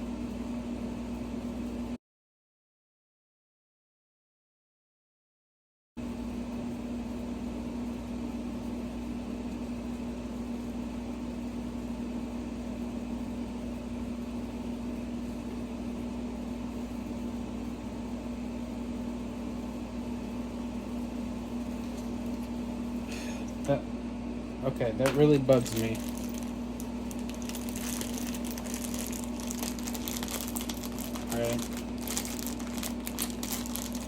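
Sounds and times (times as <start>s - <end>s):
machine hum: 6.0s - 34.0s.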